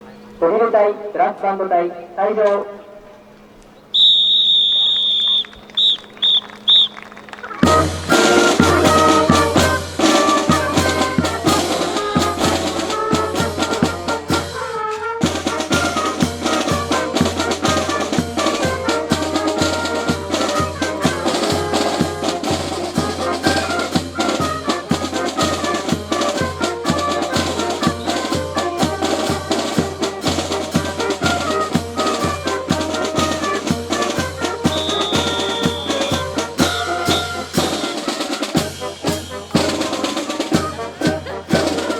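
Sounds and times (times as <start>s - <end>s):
marching brass band: 4.0s - 41.9s
trumpets: 4.0s - 41.9s
bass drum and snare beat: 7.6s - 14.6s, 15.2s - 41.9s.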